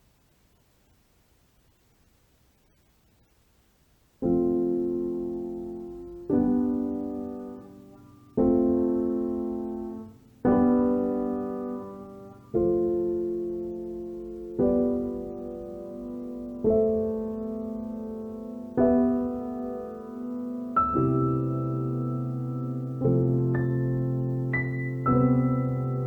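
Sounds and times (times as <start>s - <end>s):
sustained piano chords: 4.2s - 26.0s.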